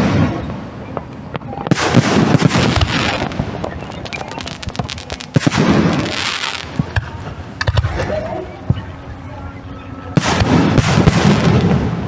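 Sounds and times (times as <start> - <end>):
fireworks bangs and crackling: 0.0 - 9.3, 10.2 - 12.0.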